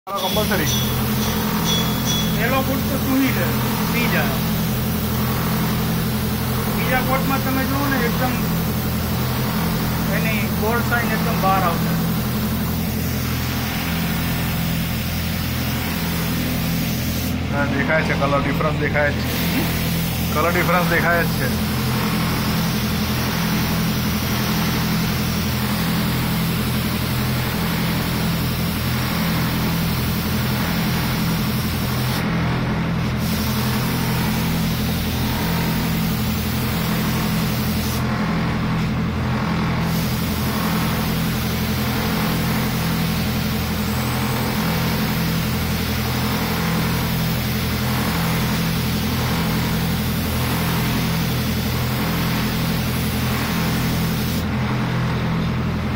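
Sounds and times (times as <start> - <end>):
low machine hum: 0.1 - 55.9
spray gun hissing: 0.2 - 17.6, 19.1 - 32.2, 33.0 - 38.1, 39.8 - 54.5.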